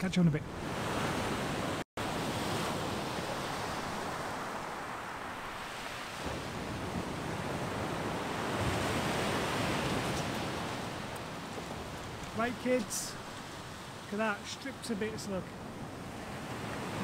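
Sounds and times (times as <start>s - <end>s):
waves breaking on beach: 0.5s - 17.0s.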